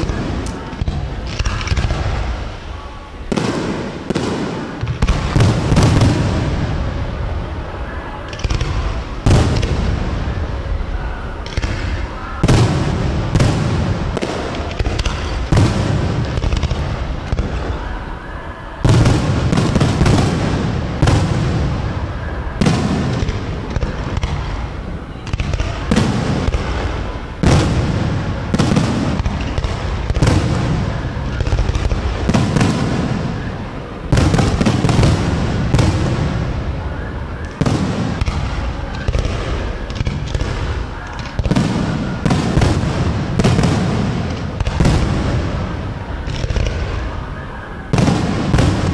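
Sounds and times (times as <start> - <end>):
firework booms: 0.0 - 18.0, 18.8 - 48.9.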